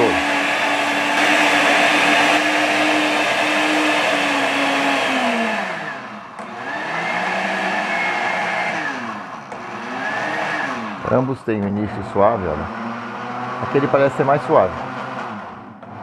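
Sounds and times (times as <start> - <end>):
blenders whirring: 0.0 - 16.0.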